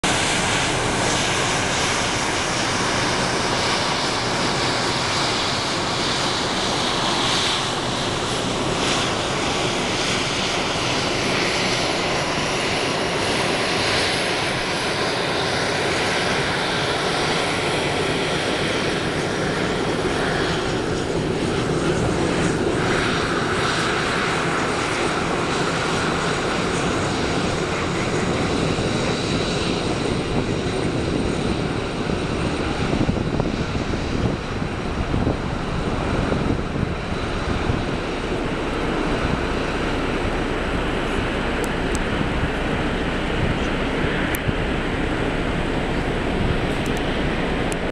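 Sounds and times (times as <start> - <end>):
jet engines taxiing: 0.0 - 47.9.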